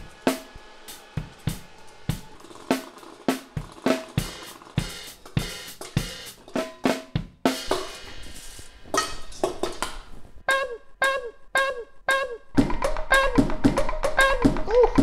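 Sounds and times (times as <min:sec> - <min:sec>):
drum kit beat with cymbals: 0:00.0 - 0:09.9, 0:10.5 - 0:15.0.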